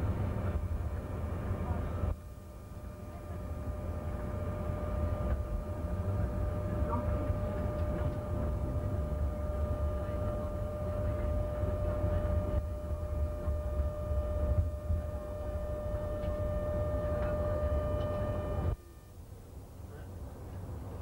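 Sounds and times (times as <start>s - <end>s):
high-pitched whine: 0.0s - 19.4s
tram rumble: 0.0s - 21.0s.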